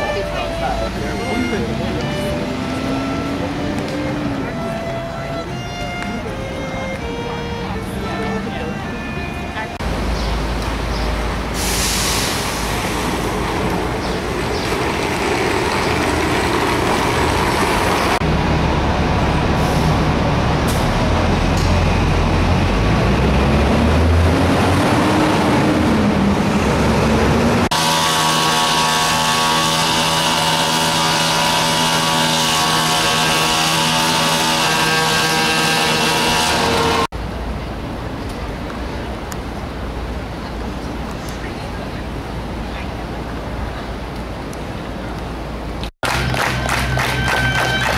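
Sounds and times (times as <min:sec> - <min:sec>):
heavy vehicle engine rumble: 0:00.0 - 0:47.9.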